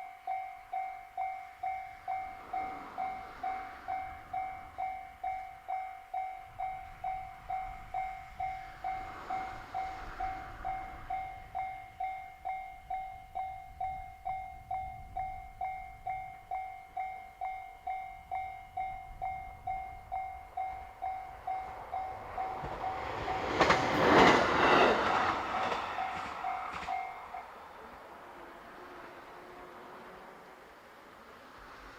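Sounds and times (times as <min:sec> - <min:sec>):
level-crossing alarm ringing: 0:00.0 - 0:24.9, 0:25.6 - 0:27.5
diesel railcar passing: 0:00.0 - 0:31.9.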